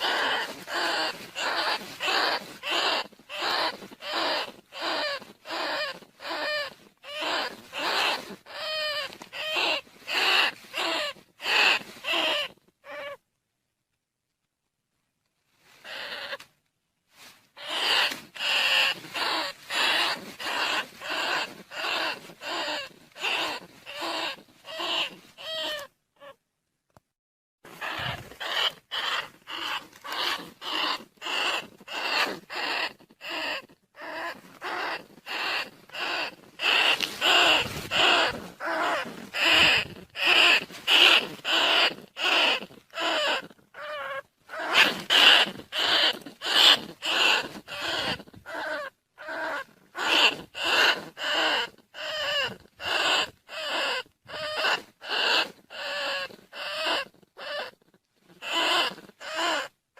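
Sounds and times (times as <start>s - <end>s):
rat squeals: 0.0s - 13.2s, 15.8s - 16.4s, 17.6s - 26.4s, 27.7s - 59.8s.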